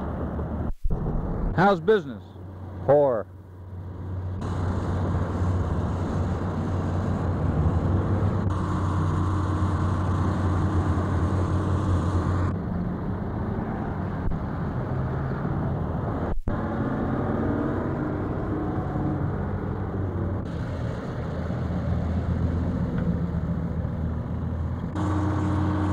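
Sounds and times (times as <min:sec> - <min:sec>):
heavy vehicle engines rumbling: 0:00.0 - 0:25.9.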